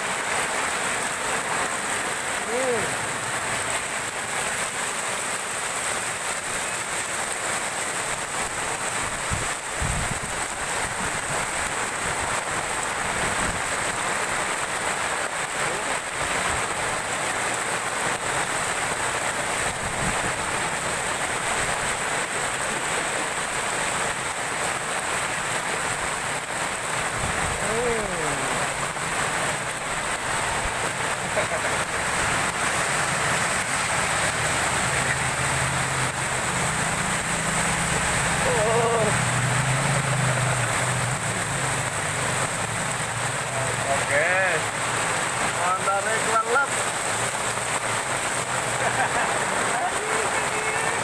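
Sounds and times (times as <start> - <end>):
heavy rain pouring: 0.0 - 51.0.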